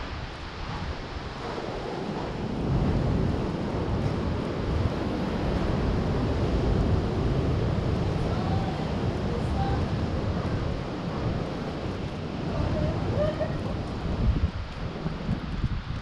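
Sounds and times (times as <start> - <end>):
surf from choppy sea: 0.0 - 16.0
wind on microphone: 0.0 - 16.0.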